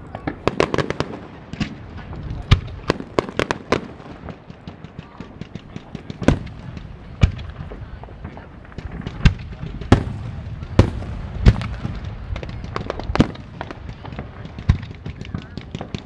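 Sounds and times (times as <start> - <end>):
fireworks booming and cracking: 0.0 - 16.0
rapid firework pops: 0.0 - 16.0.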